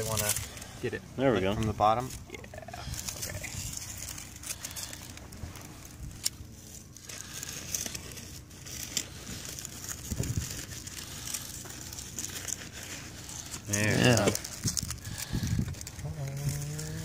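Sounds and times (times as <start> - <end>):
dry corn husks crinkling and tearing: 0.0 - 17.0.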